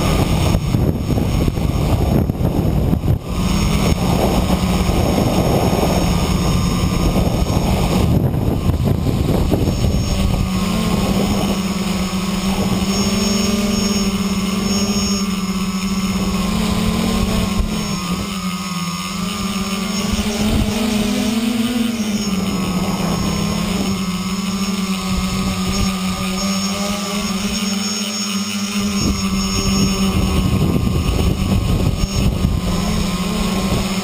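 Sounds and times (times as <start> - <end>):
wind rush: 0.0 - 27.6, 28.7 - 34.0
drone motors whirring: 0.0 - 34.0.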